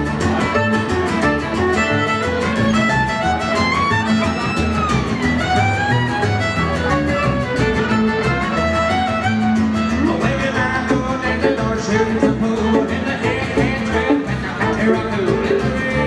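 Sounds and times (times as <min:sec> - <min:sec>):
bass: 0:00.0 - 0:16.0
fiddle melody: 0:00.0 - 0:16.0
steady drum beat: 0:00.0 - 0:16.0
strummed guitars: 0:00.0 - 0:16.0.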